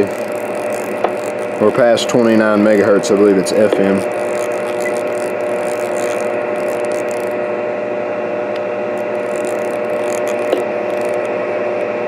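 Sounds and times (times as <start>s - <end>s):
radio static hiss: 0.0s - 7.5s, 9.0s - 11.3s.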